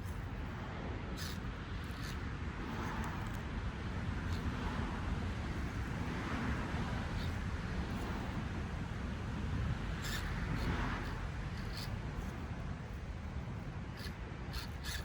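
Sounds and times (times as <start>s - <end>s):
electric motor and gears whirring: 0.0s - 15.0s.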